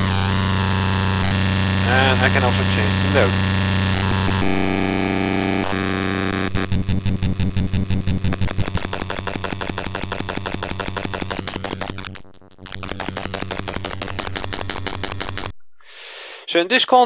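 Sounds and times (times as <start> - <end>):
glitchy stuttering drum loop: 0.0 - 15.5.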